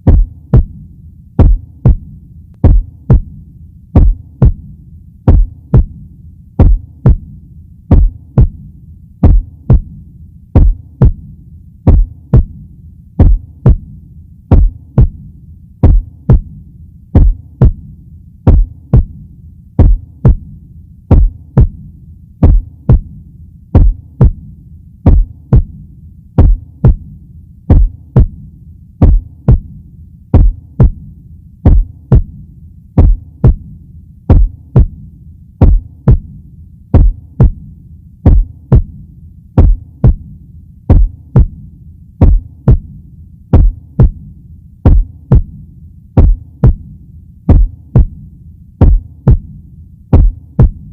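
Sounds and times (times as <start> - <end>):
heartbeat thumps: 0.0 - 3.4, 4.0 - 12.6, 13.2 - 39.0, 39.6 - 40.3, 40.9 - 50.9.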